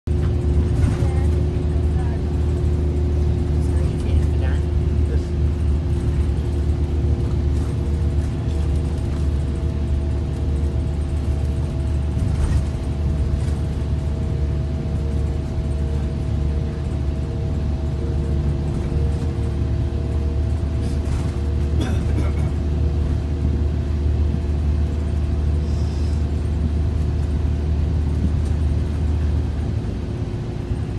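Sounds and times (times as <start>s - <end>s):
bus engine and tyres rumbling: 0.0s - 30.9s.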